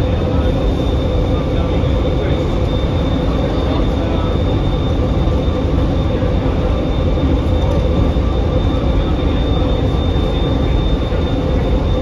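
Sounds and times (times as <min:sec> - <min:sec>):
train rumble with high whine: 0:00.0 - 0:12.0.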